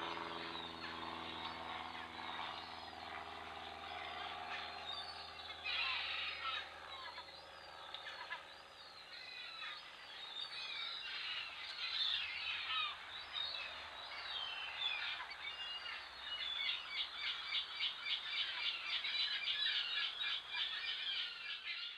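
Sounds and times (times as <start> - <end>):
songbirds chirping and singing: 0.0 - 21.9.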